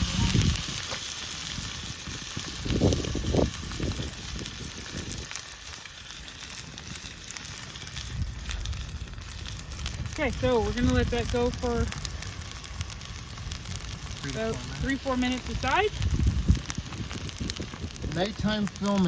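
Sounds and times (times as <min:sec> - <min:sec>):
campfire crackling: 0:00.0 - 0:19.0
steaks sizzling in a frying pan: 0:00.0 - 0:19.0.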